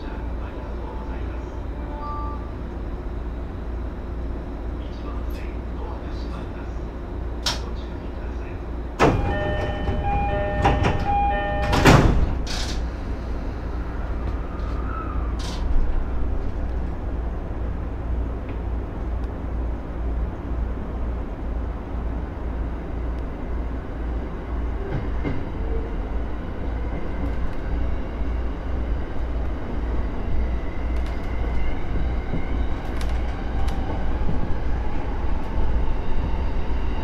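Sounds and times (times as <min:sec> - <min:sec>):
train rolling rumble: 0:00.0 - 0:37.0.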